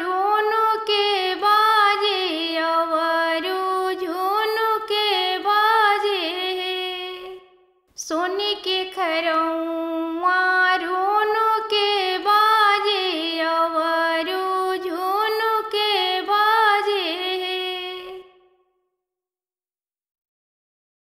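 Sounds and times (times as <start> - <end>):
woman singing folk song: 0.0 - 18.4.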